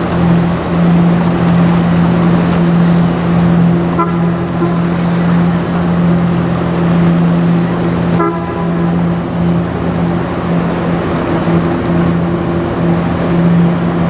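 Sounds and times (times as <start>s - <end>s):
constant rushing noise: 0.0s - 14.0s
ship engine drone: 0.0s - 14.0s.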